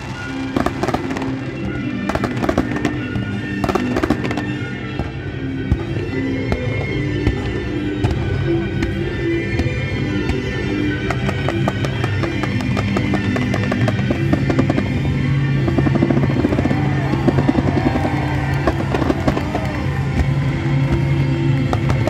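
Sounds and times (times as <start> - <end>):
fireworks crackling and popping: 0.0 - 9.0, 10.4 - 22.0
music playing: 0.0 - 22.0.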